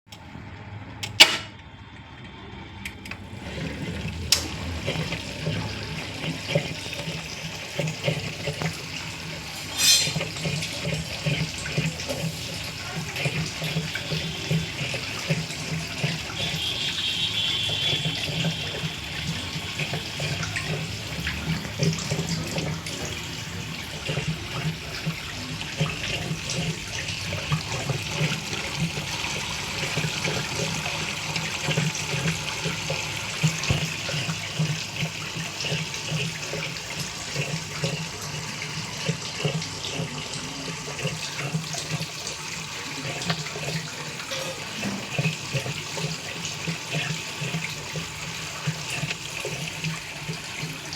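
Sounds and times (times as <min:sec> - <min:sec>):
washing machine churning water: 0:00.1 - 0:50.9.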